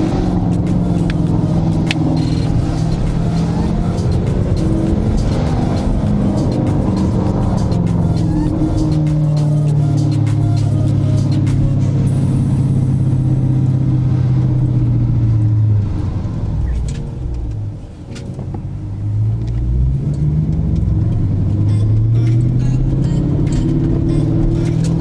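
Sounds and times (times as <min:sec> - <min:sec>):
car engine slowing and accelerating: 0:00.0 - 0:25.0.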